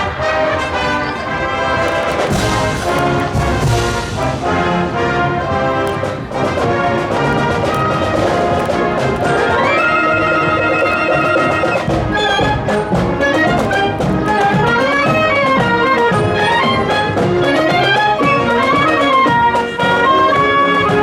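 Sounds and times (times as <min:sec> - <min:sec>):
drum beats: 0:00.0 - 0:21.0
marching band brass and woodwinds: 0:00.0 - 0:21.0.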